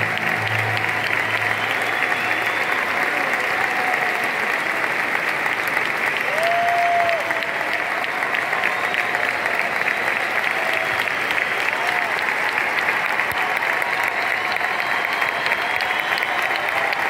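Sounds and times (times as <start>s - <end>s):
crowd cheering: 0.0s - 17.0s
crowd clapping: 0.0s - 17.0s
high call above clapping: 0.0s - 17.0s.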